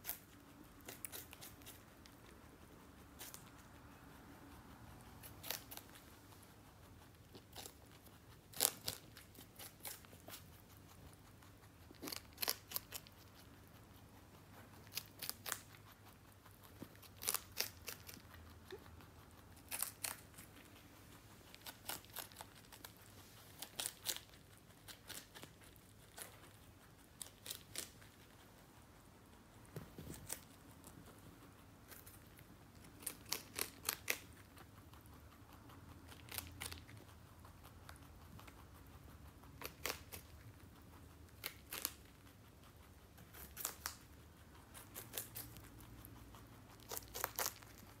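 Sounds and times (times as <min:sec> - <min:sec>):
rabbit chewing crisp greens: 0:00.0 - 0:48.0.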